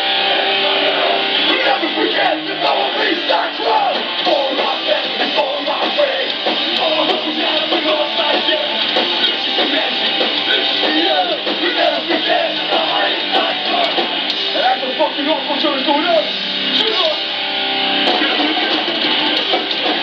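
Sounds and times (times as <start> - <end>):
loud electric guitars: 0.0 - 20.0
punk band playing live: 0.0 - 20.0.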